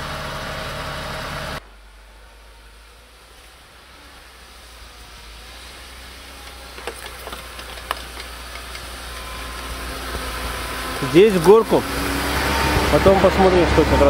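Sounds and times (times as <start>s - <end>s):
car engine rumble: 0.0s - 14.0s
tyres on snow: 0.0s - 14.0s.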